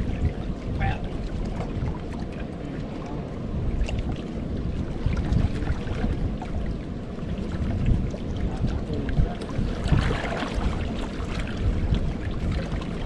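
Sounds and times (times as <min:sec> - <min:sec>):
water lapping on rocks: 0:00.0 - 0:13.0
wind buffeting microphone: 0:00.0 - 0:13.0.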